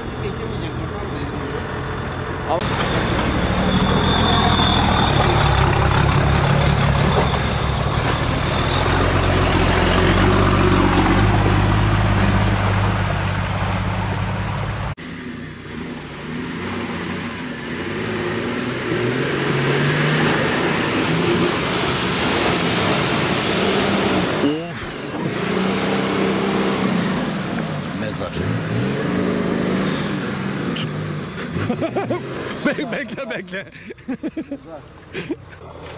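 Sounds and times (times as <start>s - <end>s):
truck engine revving: 0.0s - 34.4s
diesel engine droning: 0.0s - 35.9s
water splashing: 2.6s - 15.0s, 15.6s - 29.5s, 30.2s - 35.9s.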